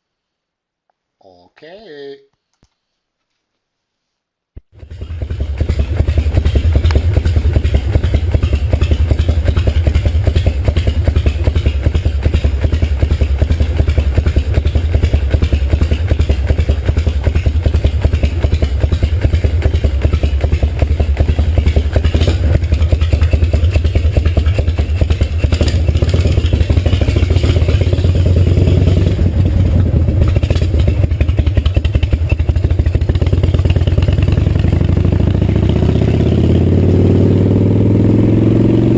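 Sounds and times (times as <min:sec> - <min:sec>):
motorcycle engine running: 0:04.7 - 0:38.9.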